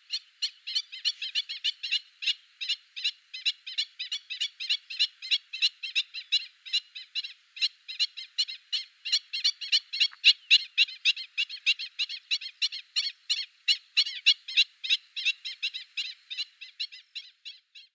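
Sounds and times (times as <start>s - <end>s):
birds yapping kek calls: 0.0s - 17.9s.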